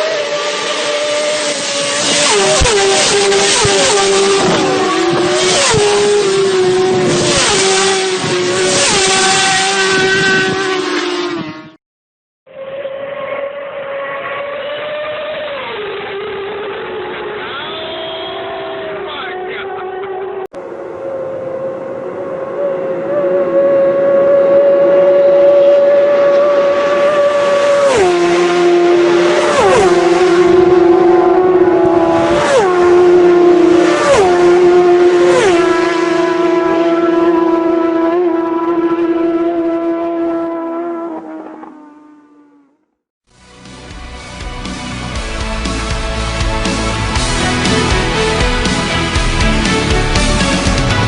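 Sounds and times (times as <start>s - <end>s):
racing motorcycles at high revs: 0.0s - 11.8s, 12.5s - 42.8s.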